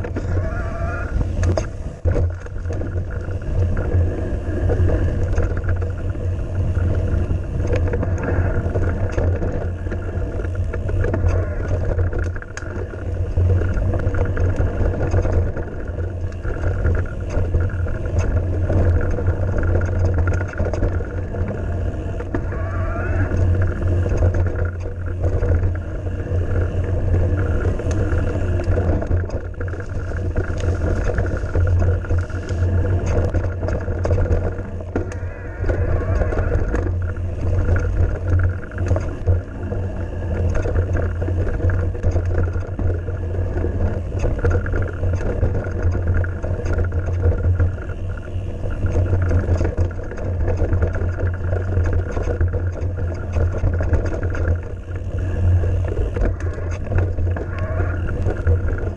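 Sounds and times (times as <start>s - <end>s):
bike rattling and knocking: 0.0s - 58.9s
wind rumble on microphone: 0.0s - 58.9s.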